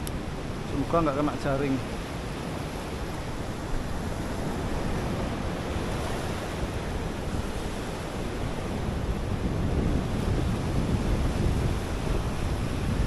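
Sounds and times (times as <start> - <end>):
ocean waves breaking on beach: 0.0 - 13.0.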